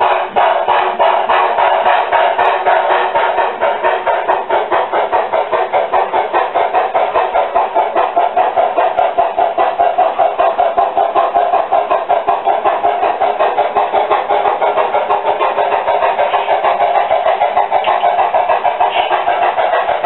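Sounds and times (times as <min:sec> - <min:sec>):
model train steam chuffs: 0:00.0 - 0:20.0.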